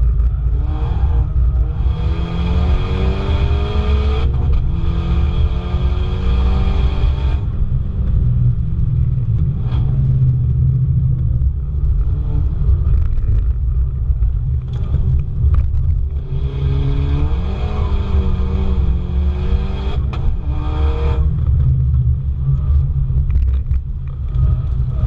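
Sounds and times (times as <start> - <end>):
car engine revving: 0.0 - 25.0
road and wind rumble: 0.0 - 25.0.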